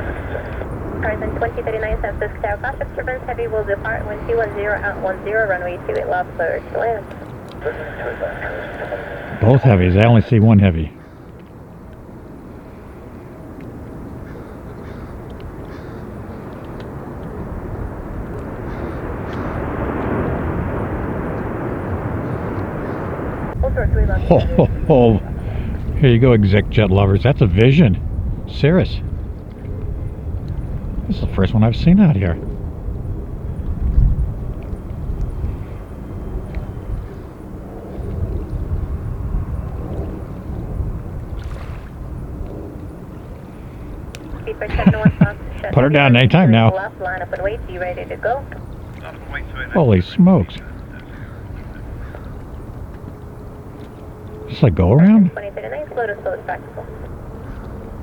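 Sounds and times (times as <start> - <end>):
jet aircraft passing: 0.0 - 58.0
wind buffeting microphone: 0.0 - 58.0.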